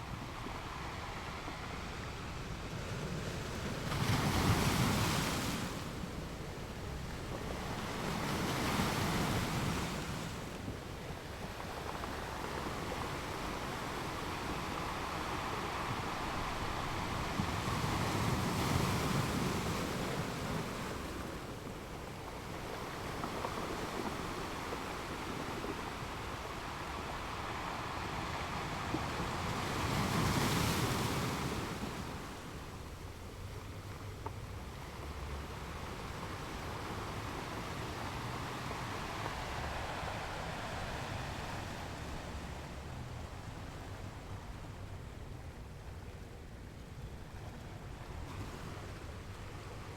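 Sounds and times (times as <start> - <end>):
sea: 0.0 - 49.9.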